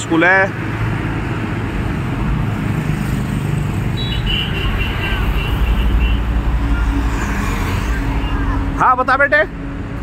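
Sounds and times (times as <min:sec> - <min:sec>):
highway traffic rumble: 0:00.0 - 0:10.0.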